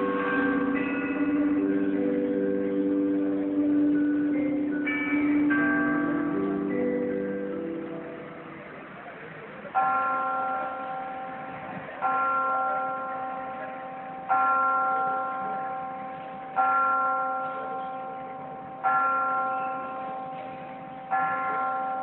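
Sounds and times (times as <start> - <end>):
church bell tolling: 0.0 - 8.5, 9.8 - 22.0.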